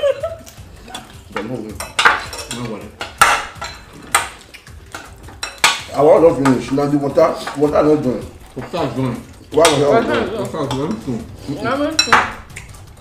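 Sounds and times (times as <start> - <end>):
cutlery clinking on plates: 0.9 - 11.2, 12.0 - 12.8.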